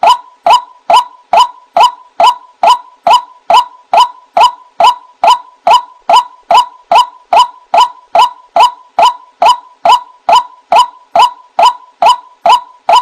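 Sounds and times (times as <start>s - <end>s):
waterhen call repeated: 0.0s - 13.0s.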